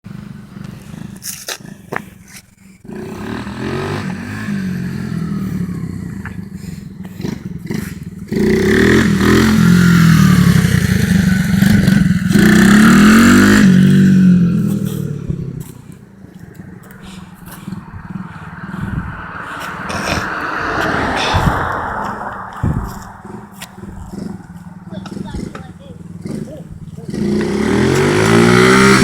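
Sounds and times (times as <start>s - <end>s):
dirt bike engine revving: 2.8s - 29.0s.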